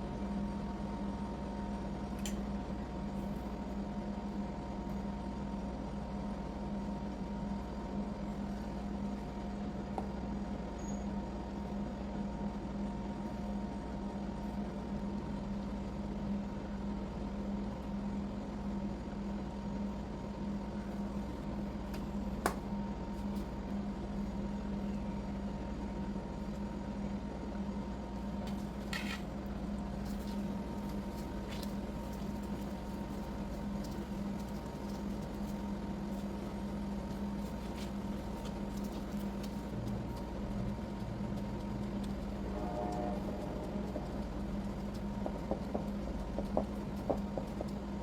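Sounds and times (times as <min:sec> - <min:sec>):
low motor hum: 0:00.0 - 0:48.0.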